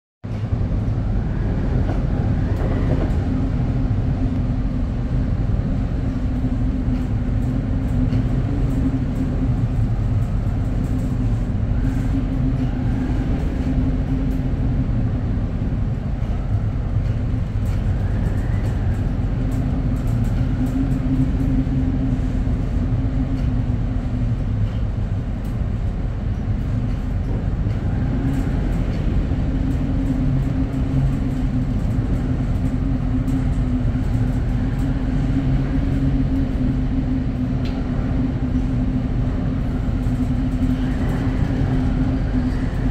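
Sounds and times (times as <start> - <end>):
gale-force wind rumble: 0.2 - 42.9.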